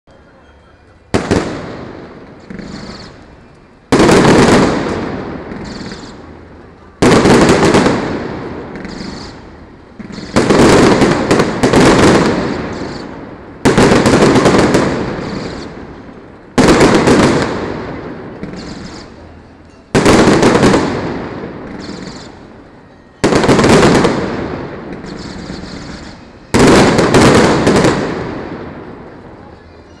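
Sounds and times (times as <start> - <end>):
fireworks booming and crackling: 1.0 - 29.8.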